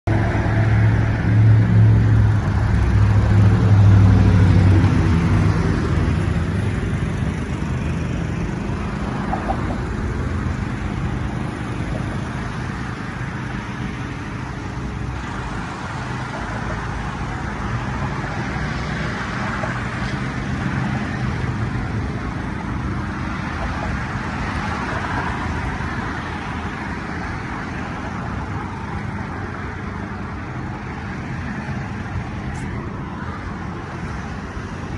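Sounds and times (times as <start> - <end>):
hum of passing traffic: 0.0 - 34.9
vehicle engine close by: 0.0 - 34.9.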